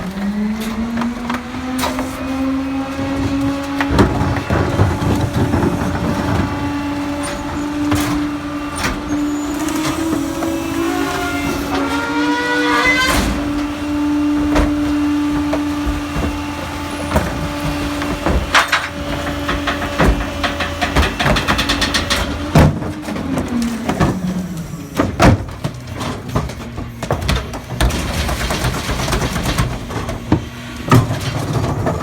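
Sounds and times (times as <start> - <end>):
garbage truck engine revving: 0.0 - 32.0
hydraulic hum: 0.0 - 32.0
knocks and cracks: 0.7 - 24.4, 25.0 - 32.0.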